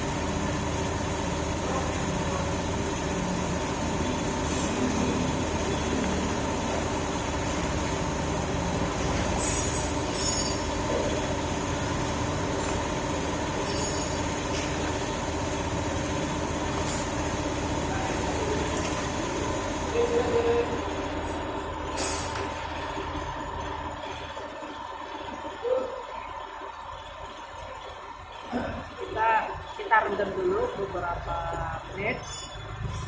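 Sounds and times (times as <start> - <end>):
machine running with hum: 0.0 - 33.0.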